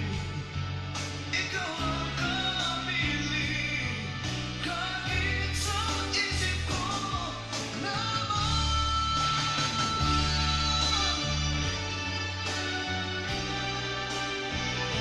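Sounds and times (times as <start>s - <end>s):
pop-rock song instrumental: 0.0s - 15.0s.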